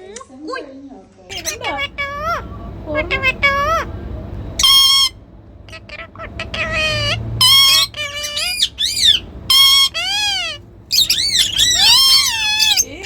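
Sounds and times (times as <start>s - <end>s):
parakeet squawking: 1.3s - 13.0s.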